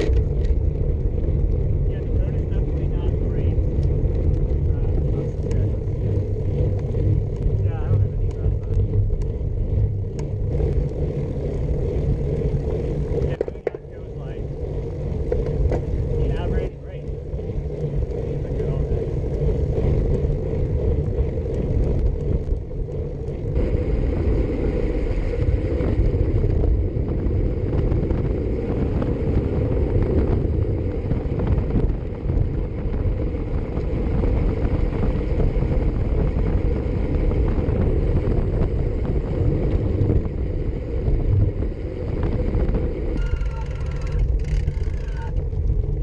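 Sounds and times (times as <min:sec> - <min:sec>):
tyres rumbling on asphalt: 0:00.0 - 0:46.0
wind buffeting microphone: 0:00.0 - 0:46.0.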